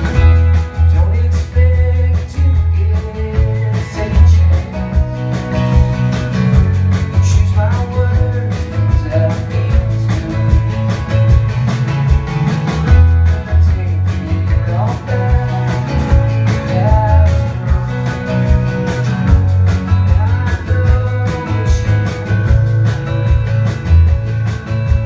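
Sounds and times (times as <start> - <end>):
drums keeping a steady beat: 0.0 - 25.0
electric guitars: 0.0 - 25.0
heavy low end: 0.0 - 25.0
sliding lead guitar line: 0.0 - 25.0
strummed acoustic guitar: 0.0 - 25.0.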